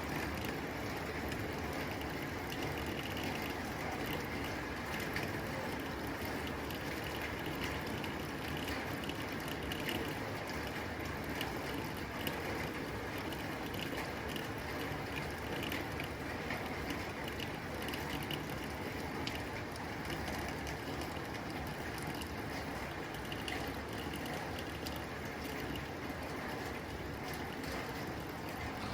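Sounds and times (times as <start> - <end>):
rain on a tin roof: 0.0 - 28.9.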